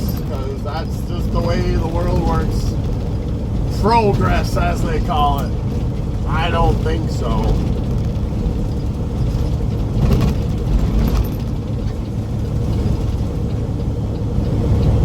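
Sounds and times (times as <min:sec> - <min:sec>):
diesel truck engine rumbling: 0:00.0 - 0:15.0
road noise: 0:00.0 - 0:15.0.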